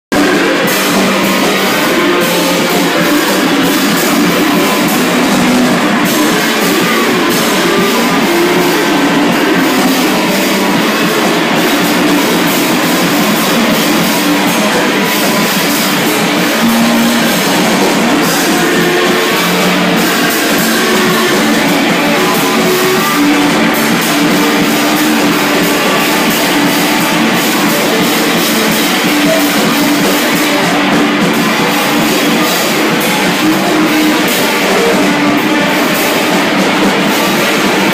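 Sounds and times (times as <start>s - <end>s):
rock band playing live: 0.1s - 37.9s.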